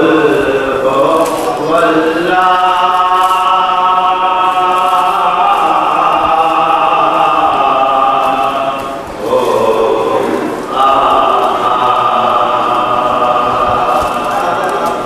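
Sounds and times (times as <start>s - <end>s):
men chanting unaccompanied: 0.0s - 15.0s.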